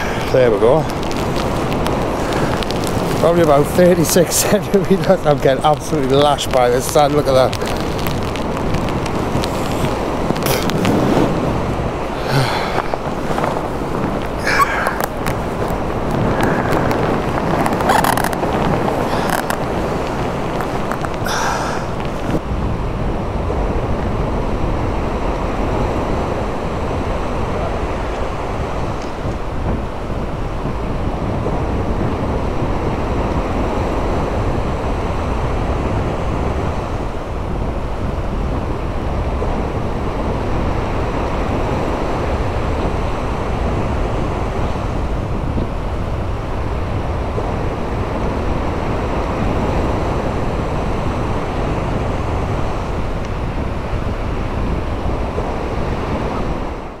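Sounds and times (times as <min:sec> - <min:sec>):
surf breaking on beach: 0:00.0 - 0:57.0
wind buffeting microphone: 0:00.0 - 0:57.0.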